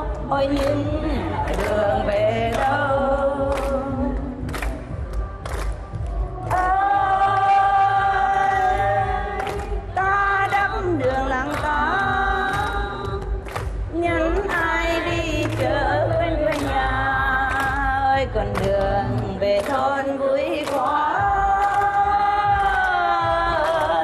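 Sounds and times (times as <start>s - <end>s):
backing music with low beat: 0.0s - 24.0s
woman singing into a microphone: 0.0s - 24.0s.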